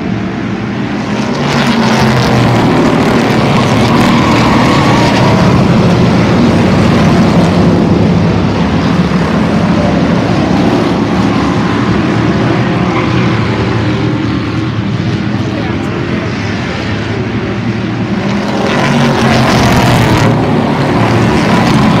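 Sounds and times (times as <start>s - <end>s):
race car engines roaring: 0.0s - 22.0s.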